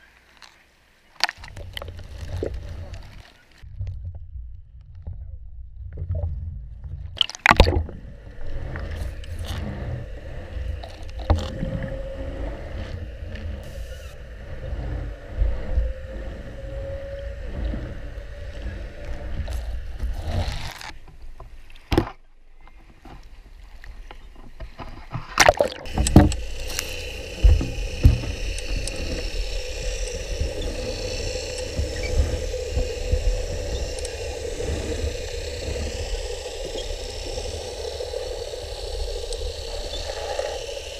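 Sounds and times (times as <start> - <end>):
faint steady drone: 0.0 - 3.7, 7.2 - 40.9
low rumble: 1.4 - 20.9, 25.8 - 40.9.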